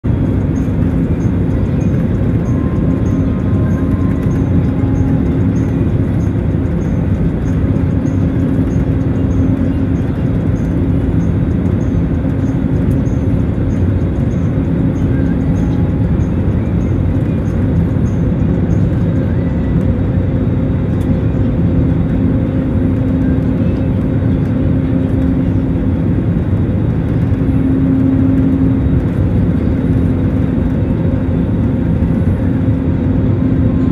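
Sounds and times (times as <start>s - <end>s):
jet engine and airflow rumble: 0.0s - 33.9s.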